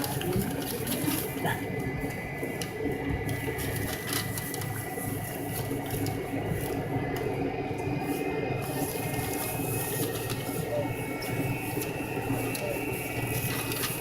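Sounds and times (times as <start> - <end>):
airliner engine drone: 0.0 - 14.0
thin steady whine: 0.0 - 14.0.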